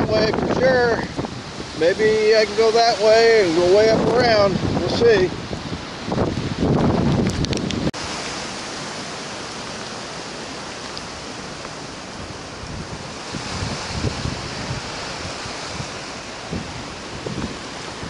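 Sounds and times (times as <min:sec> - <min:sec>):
hurricane wind and rain: 0:00.0 - 0:18.0
wind gusts buffeting microphone: 0:00.0 - 0:18.0.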